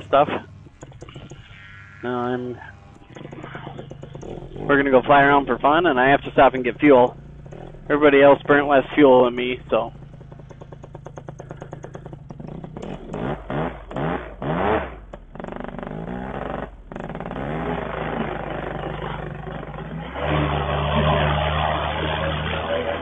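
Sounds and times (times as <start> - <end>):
two-stroke paramotor engine revving: 0.0 - 23.0.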